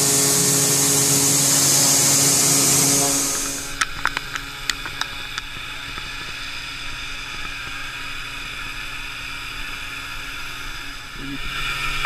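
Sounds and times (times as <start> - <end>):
cnc router whirring hum: 0.0 - 12.0.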